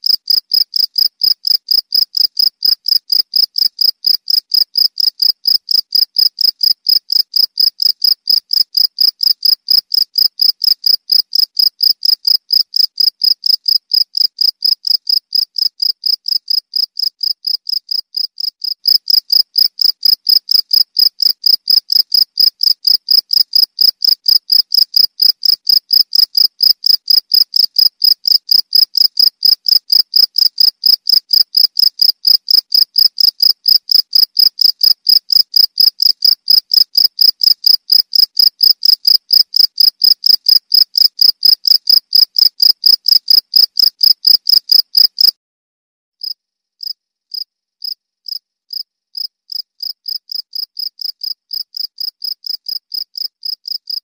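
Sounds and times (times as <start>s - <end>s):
cricket chirping: 0.1s - 45.3s.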